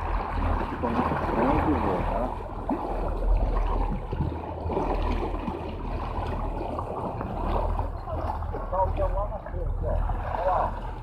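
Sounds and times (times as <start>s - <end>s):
boat engine humming: 0.0s - 11.0s
water washing against hull: 0.0s - 11.0s.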